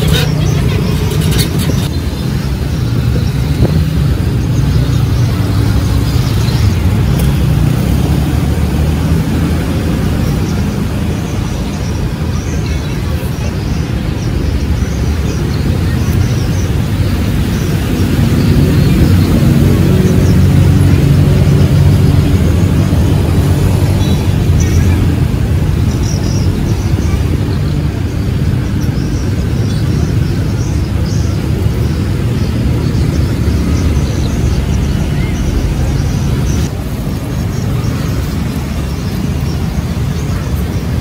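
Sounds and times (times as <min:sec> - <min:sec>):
engine drone: 0:00.0 - 0:41.0
road traffic rumble: 0:00.0 - 0:41.0.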